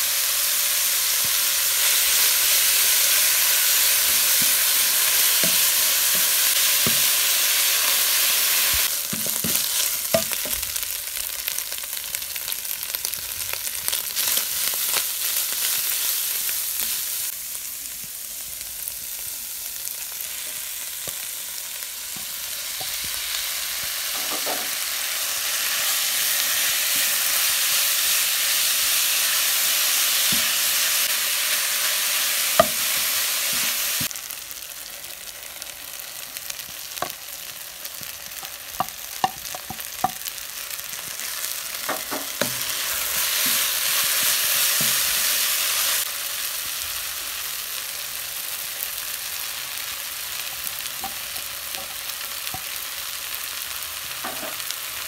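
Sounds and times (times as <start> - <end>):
meat and vegetables sizzling: 0.0 - 55.0.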